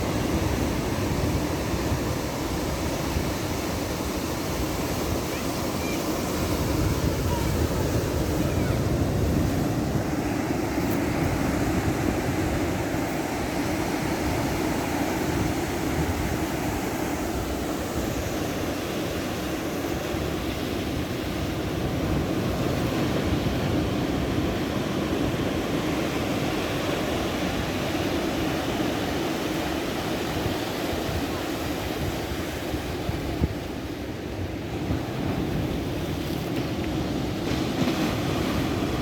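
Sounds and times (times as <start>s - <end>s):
ocean waves breaking: 0.0s - 39.0s.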